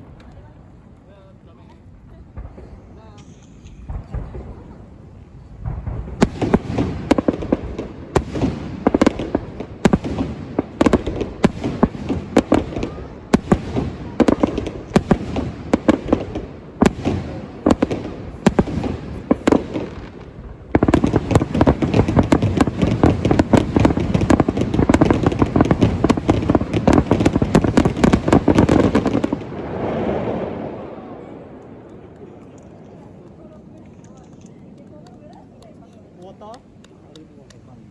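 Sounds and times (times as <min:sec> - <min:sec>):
fireworks bangs and crackles: 0:00.0 - 0:01.3, 0:02.0 - 0:37.8.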